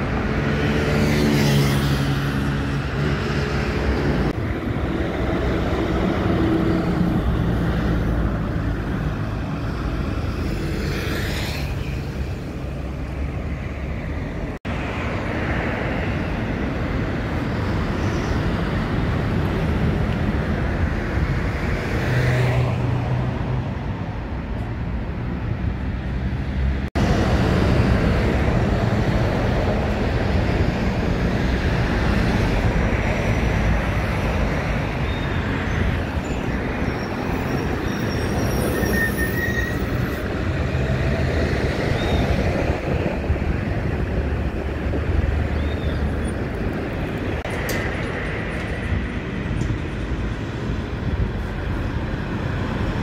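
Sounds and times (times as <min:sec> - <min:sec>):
buses and traffic passing: 0:00.0 - 0:53.0
road noise: 0:00.0 - 0:53.0.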